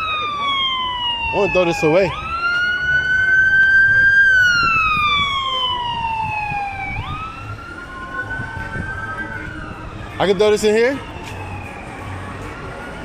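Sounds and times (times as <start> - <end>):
emergency vehicle siren wailing: 0.0 - 13.0
low traffic rumble: 0.0 - 13.0.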